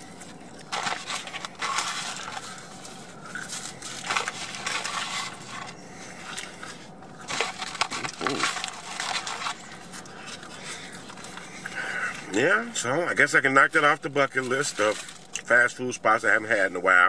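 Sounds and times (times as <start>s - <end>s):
food wrappers crinkling: 0.2s - 12.3s, 13.9s - 15.5s.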